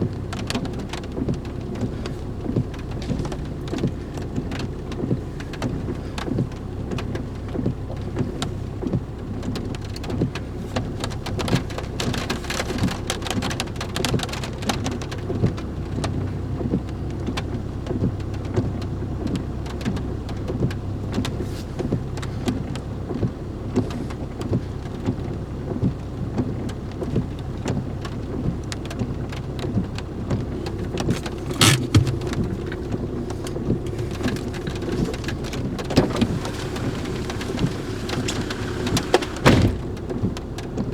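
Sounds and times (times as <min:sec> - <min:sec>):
rain pattering: 0:00.0 - 0:40.9
vehicle engine idling: 0:00.0 - 0:40.9.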